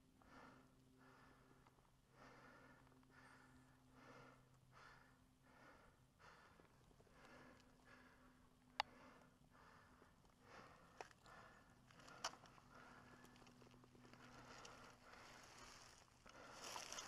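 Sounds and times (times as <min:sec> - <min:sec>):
faint steady hum: 0:00.0 - 0:17.0
faint breathing: 0:00.2 - 0:17.0.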